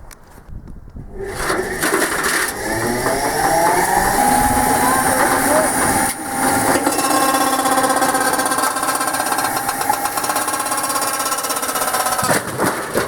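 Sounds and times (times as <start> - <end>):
washing machine motor whine: 1.1 - 12.2.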